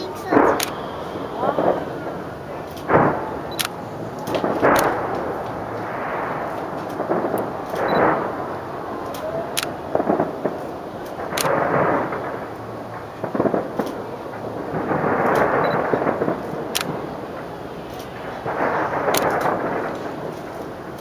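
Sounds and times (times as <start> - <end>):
distant fireworks booming: 0.0 - 21.0
sharp firework cracks: 0.0 - 21.0.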